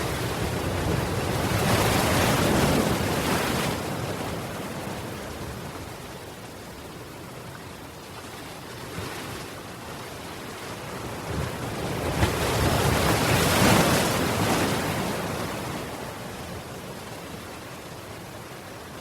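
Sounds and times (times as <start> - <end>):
ocean waves washing onto shore: 0.0 - 19.0.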